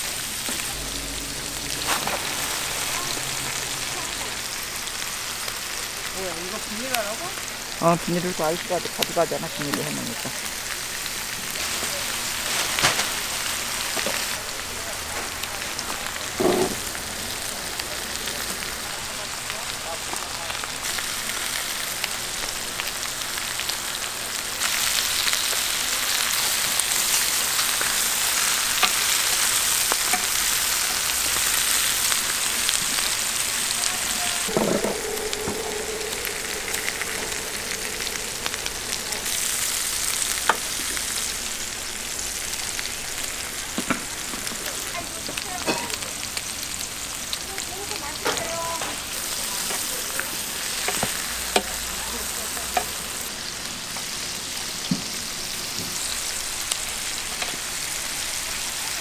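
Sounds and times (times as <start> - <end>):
meat sizzling on a hot plate: 0.0 - 59.0.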